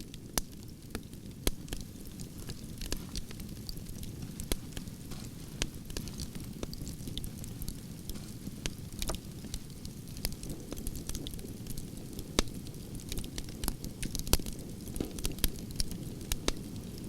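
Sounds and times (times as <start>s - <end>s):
campfire burning: 0.0s - 17.0s
logs crackling and popping: 0.0s - 17.0s.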